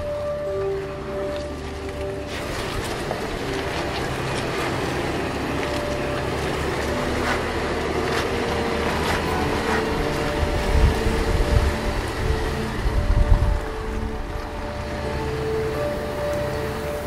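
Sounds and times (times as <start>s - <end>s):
car engine pulling uphill: 0.0s - 17.0s.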